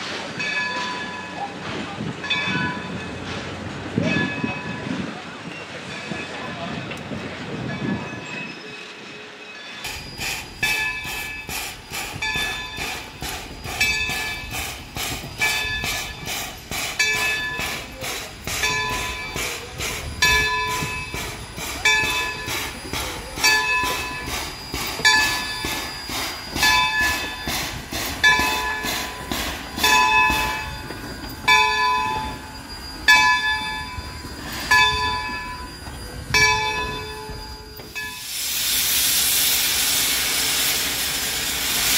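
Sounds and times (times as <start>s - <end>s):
locomotive bell ringing: 0.3s - 3.4s, 4.0s - 38.3s.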